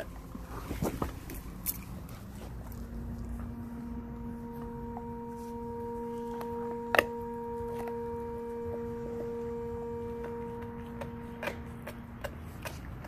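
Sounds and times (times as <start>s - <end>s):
dog chewing on bone: 0.0s - 4.8s, 6.2s - 9.4s, 10.1s - 13.0s
steady humming tone: 0.0s - 13.0s.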